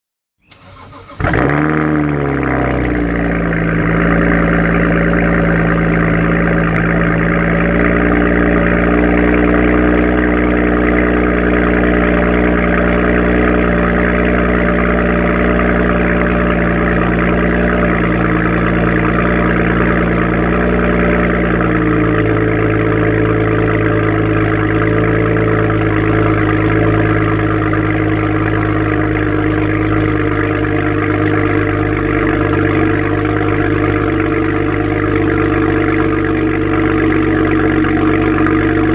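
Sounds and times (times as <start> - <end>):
car engine idling: 0.4 - 38.9.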